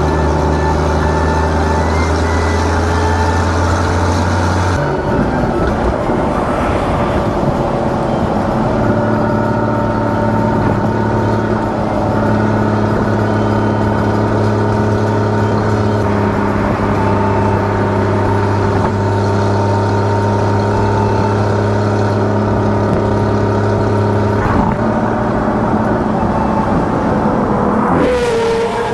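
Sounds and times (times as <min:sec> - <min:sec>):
car engine and exhaust droning: 0:00.0 - 0:28.9.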